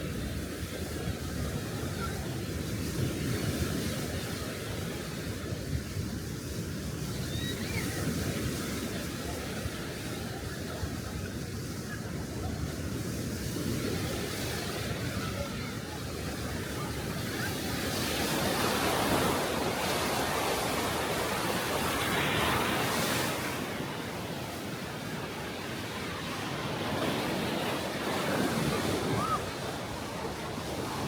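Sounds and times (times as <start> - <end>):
small waves washing onto beach: 0.0 - 31.0.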